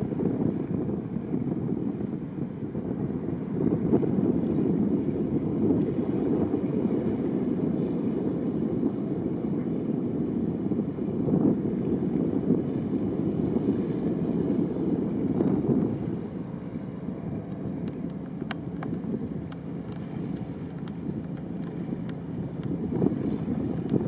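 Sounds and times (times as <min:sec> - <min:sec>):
boat engine rumble: 0:00.0 - 0:24.0
wind buffeting microphone: 0:00.0 - 0:24.0.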